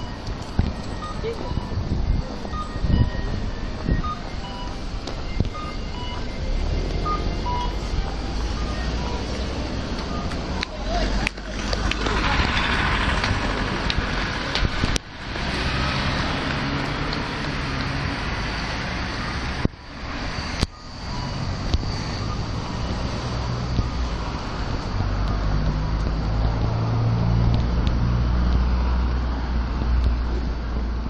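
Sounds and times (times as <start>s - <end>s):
cars driving past: 0.0s - 31.0s
low engine hum: 0.0s - 31.0s.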